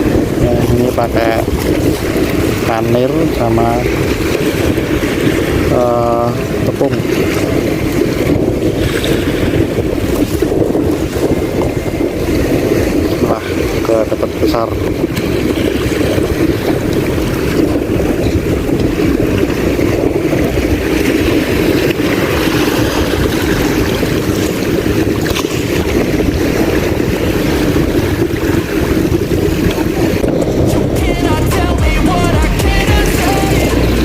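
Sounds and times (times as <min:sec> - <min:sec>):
sea waves surging: 0:00.0 - 0:34.0
wind buffeting microphone: 0:00.0 - 0:34.0.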